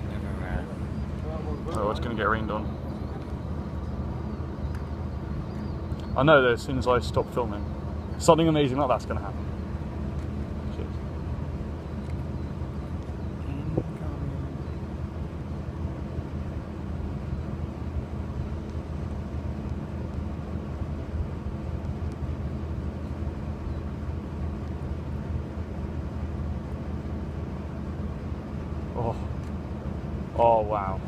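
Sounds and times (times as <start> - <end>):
constant rumble: 0.0 - 31.0
mechanical hum with droning tones: 0.0 - 31.0.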